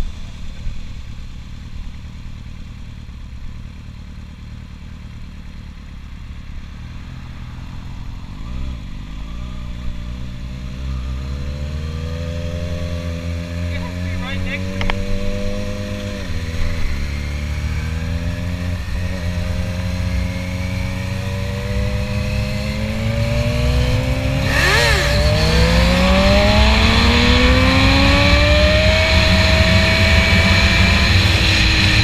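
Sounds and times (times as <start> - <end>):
vehicle engine accelerating: 0.0 - 32.0.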